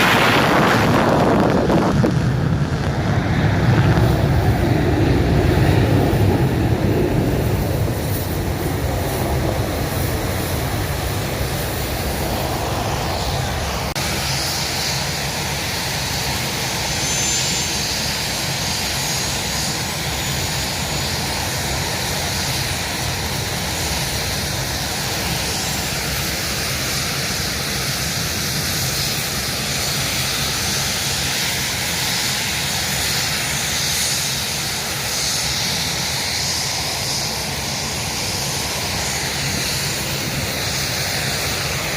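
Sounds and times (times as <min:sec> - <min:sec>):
aircraft engine noise: 0:00.0 - 0:41.9.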